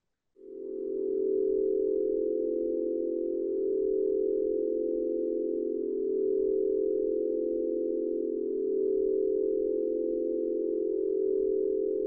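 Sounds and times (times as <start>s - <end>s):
drone of pure tones: 0.4s - 12.0s.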